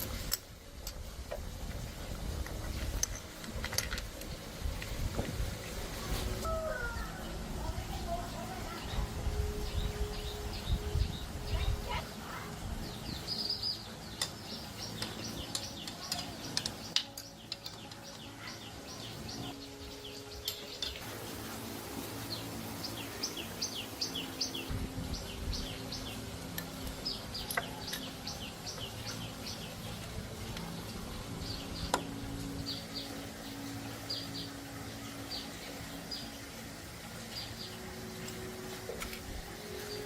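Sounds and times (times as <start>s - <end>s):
small birds chirping: 2.2s - 40.0s.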